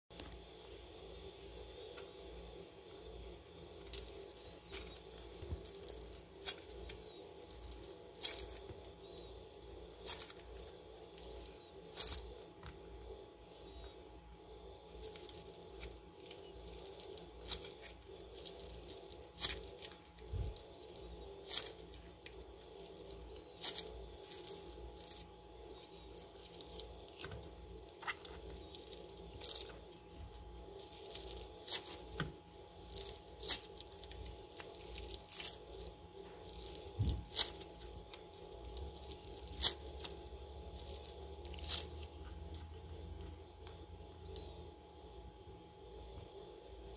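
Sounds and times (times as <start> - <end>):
foam-bead slime crunching: 3.4 - 43.4.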